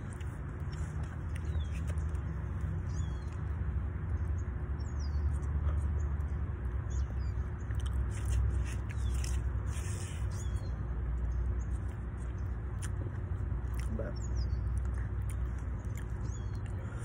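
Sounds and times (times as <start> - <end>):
wet chewing and mouth smacking: 0.0 - 3.6, 5.3 - 17.0.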